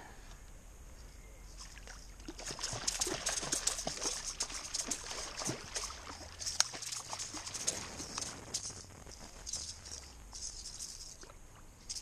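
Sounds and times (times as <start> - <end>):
fish splashing in water: 1.6 - 11.4.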